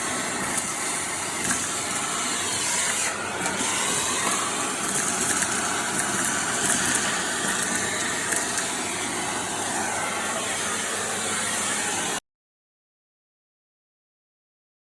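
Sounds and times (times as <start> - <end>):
vacuum cleaner running: 0.0 - 12.2.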